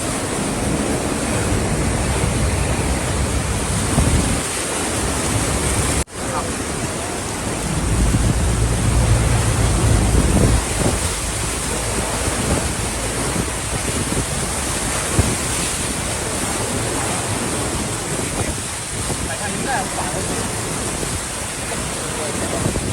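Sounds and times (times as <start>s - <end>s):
floodwater rushing: 0.0s - 22.9s
wind buffeting microphone: 0.0s - 22.9s.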